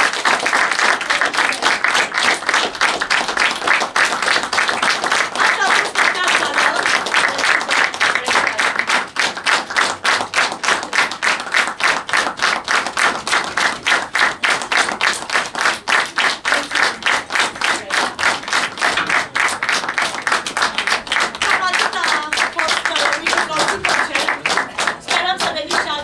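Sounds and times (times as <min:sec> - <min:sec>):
audience clapping: 0:00.0 - 0:26.0.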